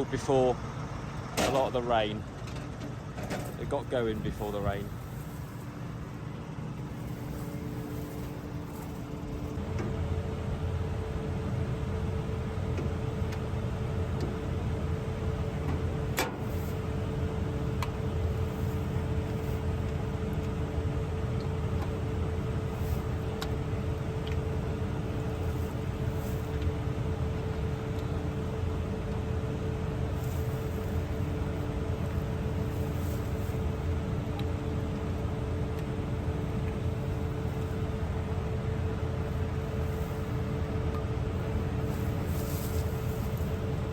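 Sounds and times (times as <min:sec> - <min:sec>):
combine harvester droning: 0:00.0 - 0:43.9
steady hum: 0:00.0 - 0:43.9.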